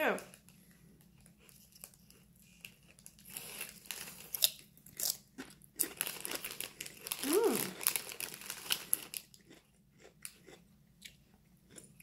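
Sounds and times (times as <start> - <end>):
chips being chewed: 1.1 - 12.0.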